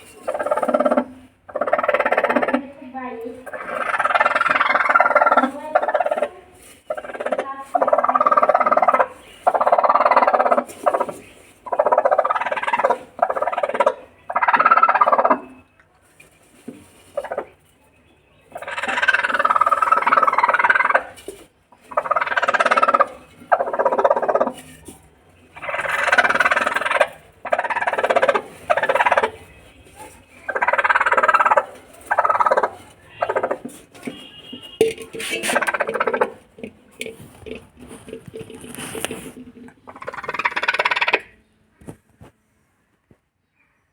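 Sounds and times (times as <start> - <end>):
chickens squawking loudly: 0.0 - 2.7, 3.4 - 15.6, 18.5 - 24.8, 25.5 - 36.6, 37.6 - 41.4.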